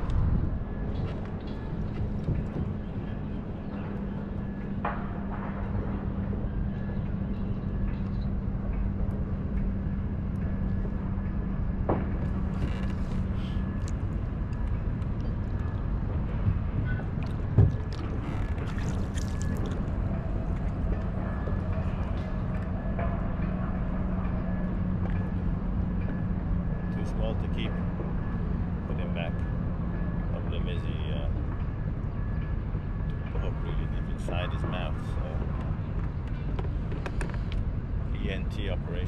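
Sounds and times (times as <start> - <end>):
low hum and rumble: 0.0 - 39.0.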